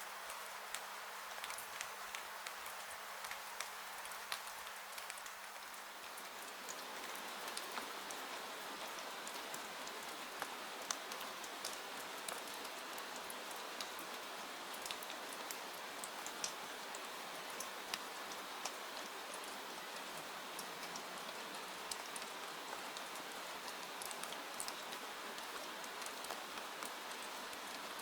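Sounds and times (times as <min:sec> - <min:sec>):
steady rain hiss: 0:00.0 - 0:28.0
raindrops ticking on surface: 0:00.1 - 0:28.0.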